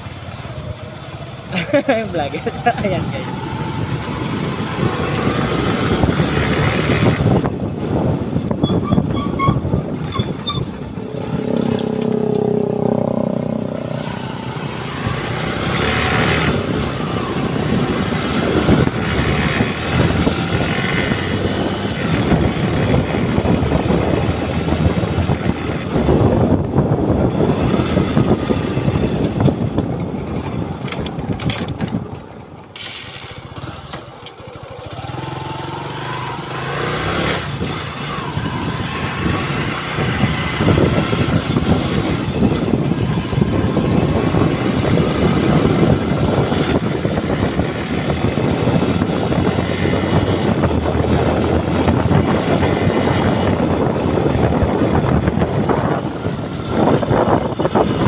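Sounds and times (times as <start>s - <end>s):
wind buffeting microphone: 0.0s - 32.8s, 34.9s - 58.0s
vehicle engine and road noise: 0.0s - 58.0s.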